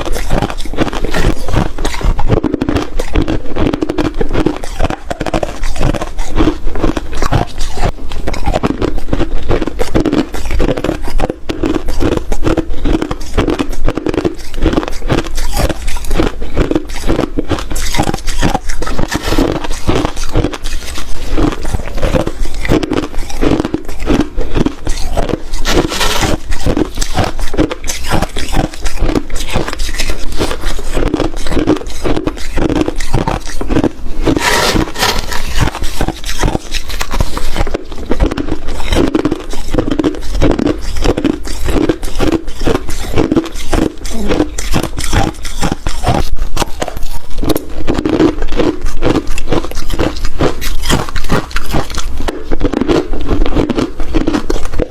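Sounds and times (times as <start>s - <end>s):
ice being chewed and crunched: 0.0s - 54.9s.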